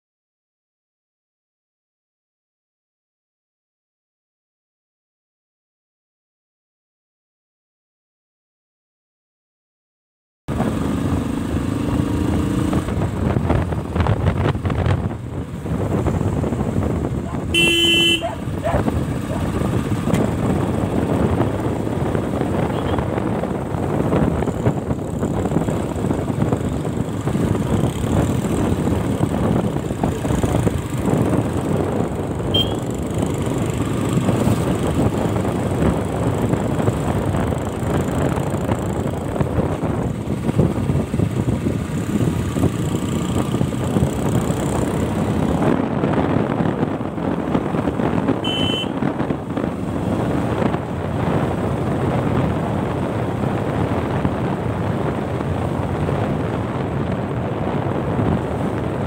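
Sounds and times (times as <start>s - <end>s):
motorcycle engine: 10.5s - 59.0s
wind buffeting microphone: 10.6s - 59.0s.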